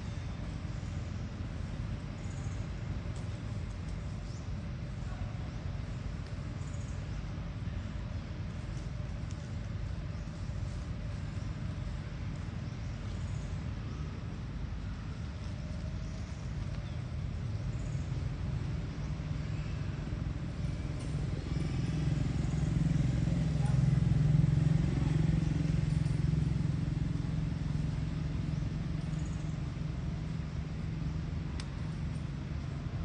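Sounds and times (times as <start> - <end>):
vehicle rumble: 0.0 - 33.0.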